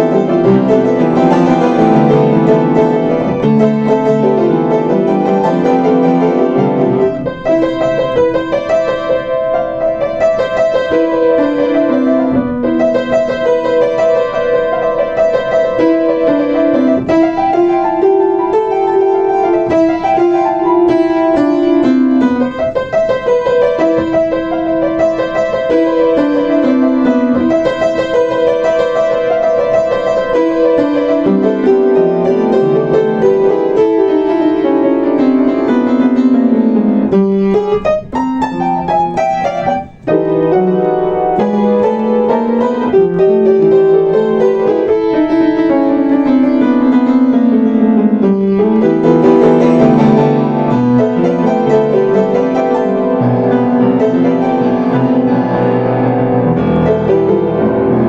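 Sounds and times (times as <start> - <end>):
upright piano playing: 0.0 - 58.0.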